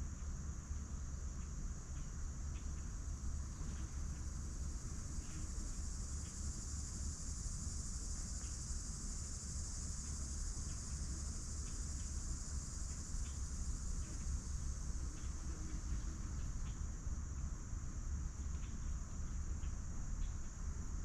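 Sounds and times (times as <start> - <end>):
insects droning: 0.0 - 21.0
faint ticks: 0.1 - 7.4, 8.2 - 20.8.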